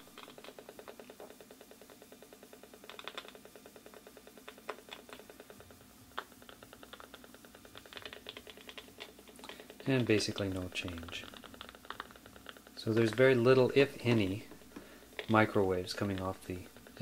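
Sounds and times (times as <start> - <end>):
rapid electronic ticking and clicks: 0.0 - 17.0.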